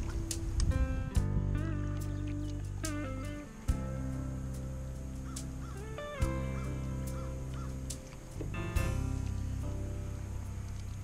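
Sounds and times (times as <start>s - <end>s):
instrumental music with held notes: 0.0s - 11.0s.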